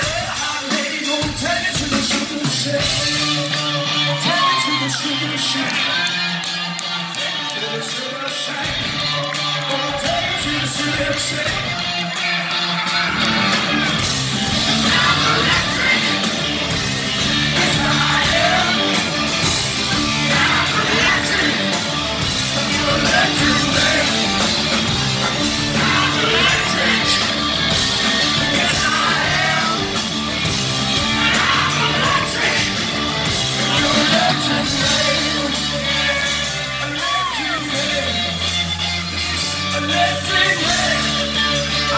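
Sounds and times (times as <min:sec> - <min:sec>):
drums: 0:00.0 - 0:41.9
electric guitar: 0:00.0 - 0:41.9
man singing and yelling: 0:00.0 - 0:41.9.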